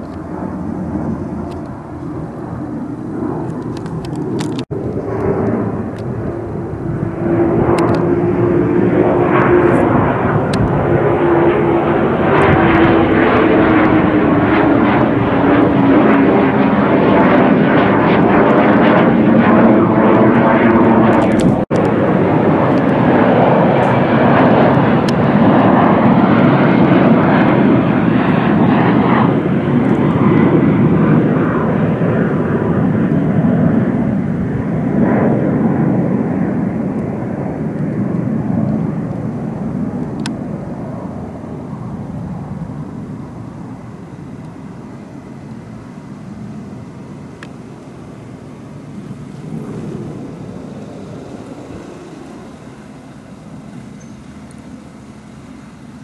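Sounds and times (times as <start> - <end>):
jet aircraft roar overhead: 0.0 - 56.0.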